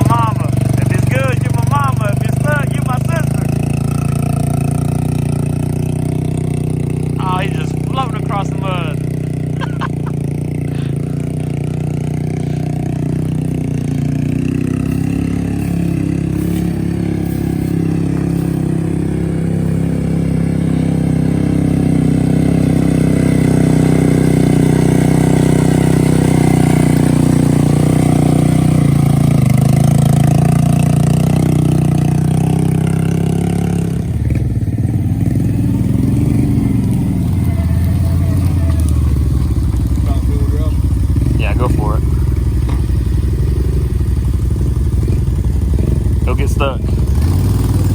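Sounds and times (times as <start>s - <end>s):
atv engine running under load: 0.0s - 47.9s.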